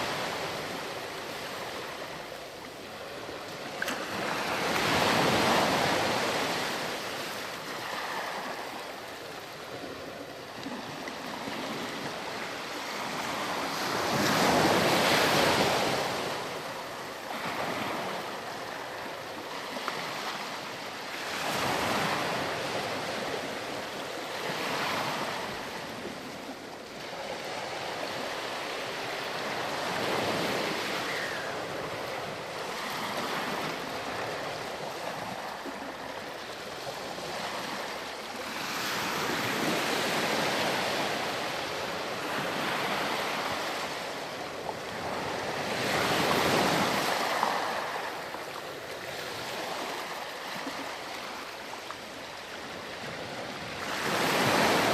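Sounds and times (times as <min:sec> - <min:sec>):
waves washing onto beach: 0:00.0 - 0:54.9.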